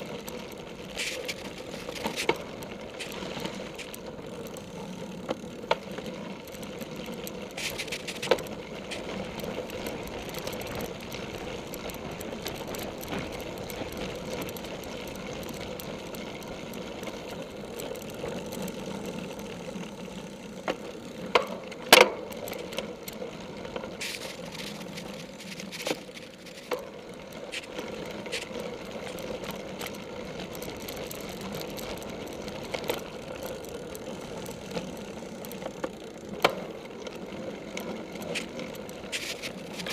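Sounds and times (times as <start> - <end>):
bike tyres and drivetrain whirring: 0.0 - 39.9.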